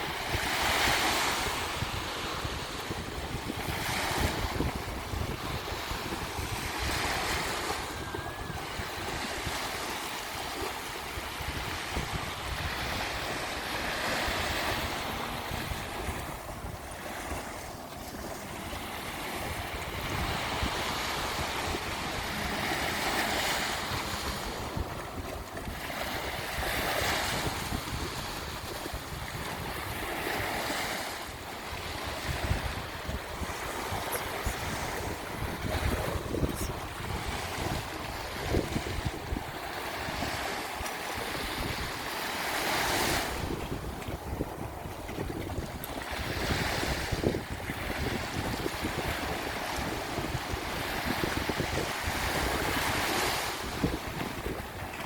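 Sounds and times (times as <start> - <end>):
sea waves breaking on beach: 0.0 - 55.0
wind rumbling on microphone: 0.0 - 55.0.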